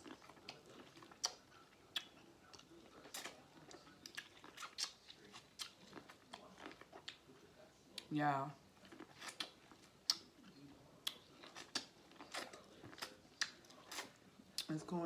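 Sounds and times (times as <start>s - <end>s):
wet mouth chewing sounds: 0.0s - 7.4s, 8.8s - 14.8s.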